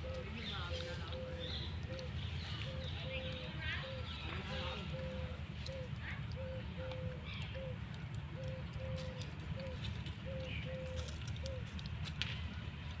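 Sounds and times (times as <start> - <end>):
dove cooing: 0.0 - 11.7
low steady rumble: 0.0 - 13.0.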